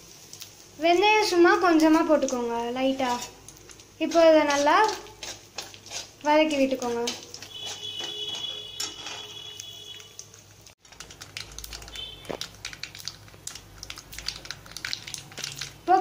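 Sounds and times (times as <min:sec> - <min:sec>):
seeds popping in hot oil: 0:00.0 - 0:16.0.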